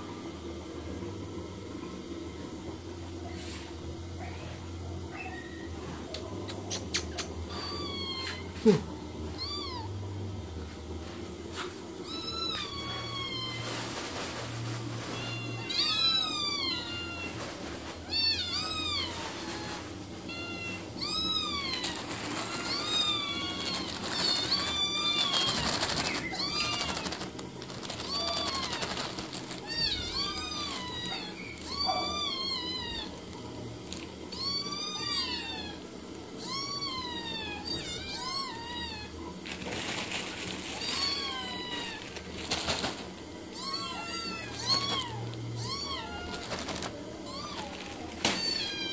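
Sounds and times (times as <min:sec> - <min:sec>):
cats and kittens meowing: 0:04.2 - 0:10.3, 0:12.0 - 0:48.9.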